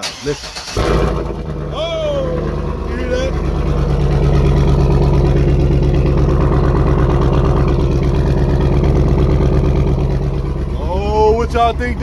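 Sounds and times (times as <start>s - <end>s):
engine idling loudly: 0.5s - 12.0s.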